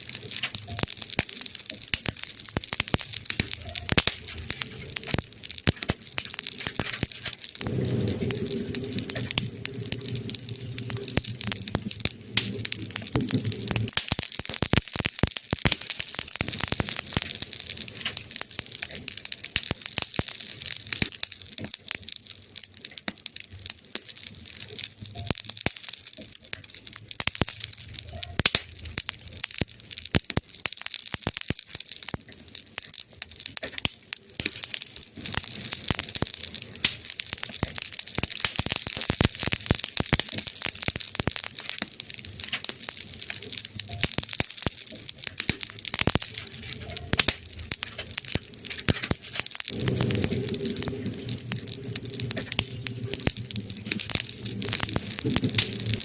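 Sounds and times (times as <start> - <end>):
fire hiss: 0.0 - 56.0
wood fire crackling and popping: 0.0 - 56.0.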